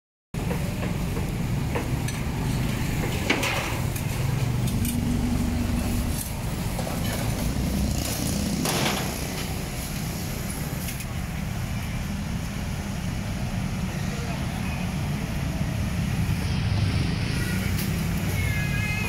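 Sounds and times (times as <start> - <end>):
street traffic: 0.3 - 19.0.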